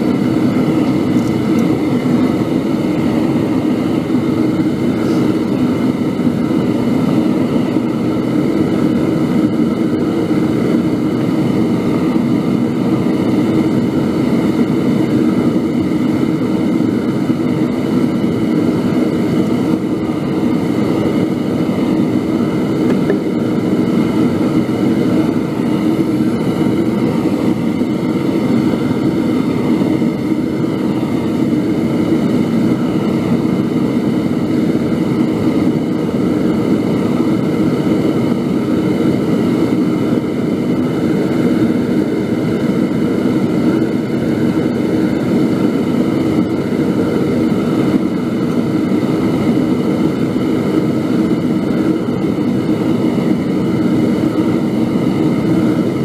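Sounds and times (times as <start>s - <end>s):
furnace burner roaring: 0.0s - 56.0s.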